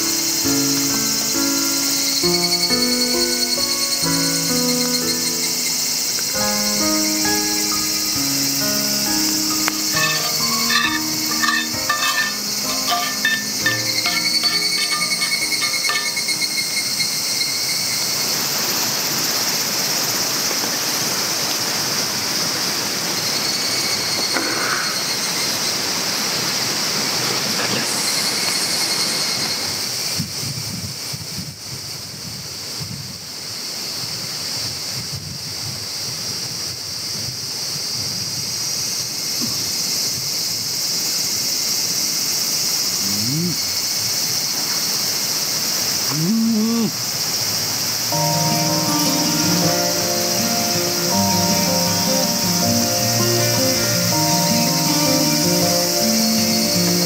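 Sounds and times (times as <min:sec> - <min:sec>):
low hiss: 0:00.0 - 0:31.2, 0:37.7 - 0:57.0
insects droning: 0:00.0 - 0:57.0.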